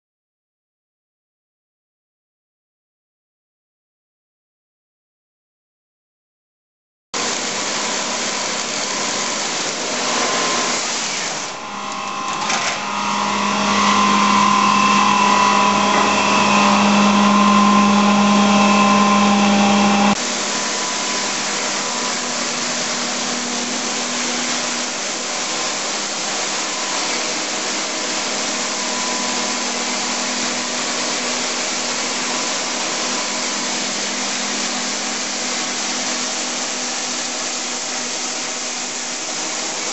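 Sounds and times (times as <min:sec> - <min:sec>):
high machine whine: 0:07.2 - 0:39.9
printing machine whirring: 0:07.2 - 0:39.9.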